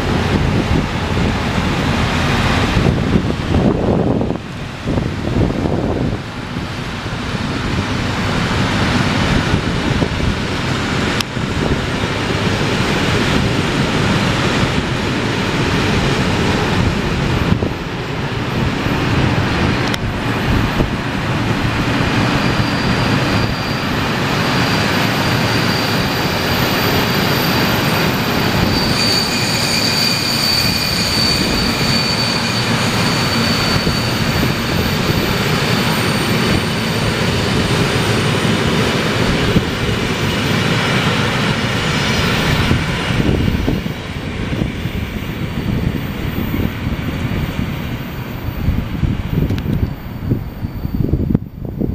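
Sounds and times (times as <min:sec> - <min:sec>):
diesel locomotives passing: 0:00.0 - 0:51.9
train wheel noise: 0:00.0 - 0:51.9
high wheel squeal: 0:07.3 - 0:51.9.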